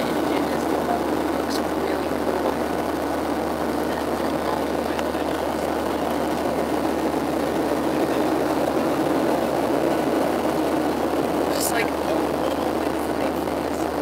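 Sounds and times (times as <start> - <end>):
jet engine noise in cabin: 0.0 - 14.0.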